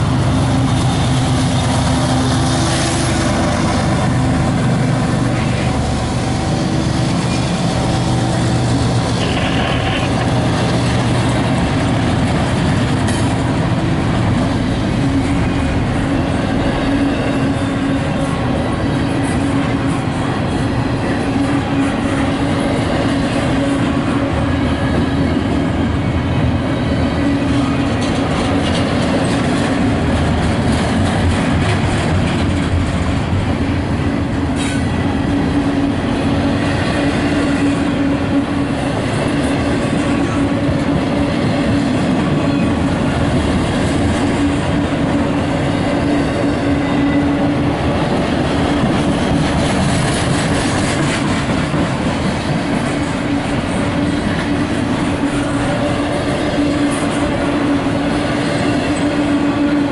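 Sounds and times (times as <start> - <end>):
freight train passing: 0.0 - 59.9
steel wheels clattering on rails: 0.0 - 59.9.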